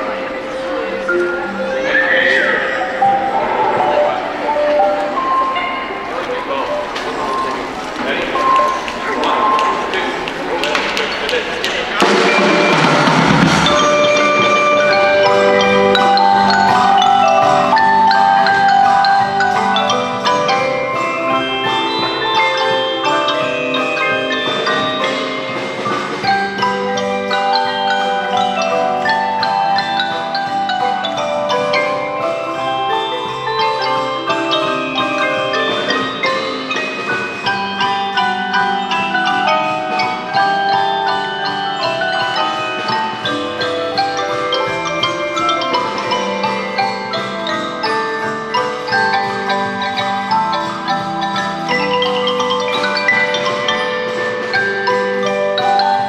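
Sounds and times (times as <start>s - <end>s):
tuned percussion ensemble playing: 0.0s - 56.0s.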